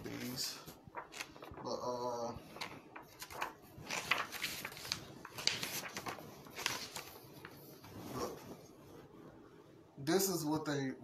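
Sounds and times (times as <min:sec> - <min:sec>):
book pages rustling: 0:00.0 - 0:09.0.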